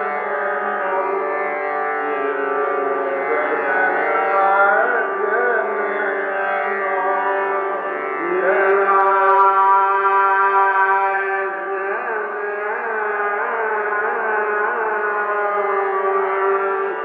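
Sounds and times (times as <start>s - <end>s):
tanpura drone: 0.0s - 17.0s
man singing classical vocals: 2.0s - 16.6s.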